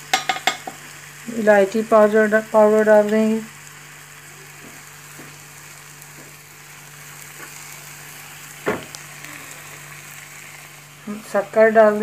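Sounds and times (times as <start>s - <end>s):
carrots sizzling and bubbling in pan: 0.0s - 12.0s.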